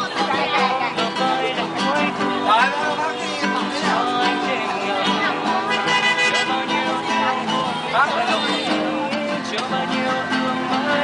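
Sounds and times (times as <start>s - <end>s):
classical guitar strumming: 0.0s - 11.0s
man singing: 0.0s - 11.0s.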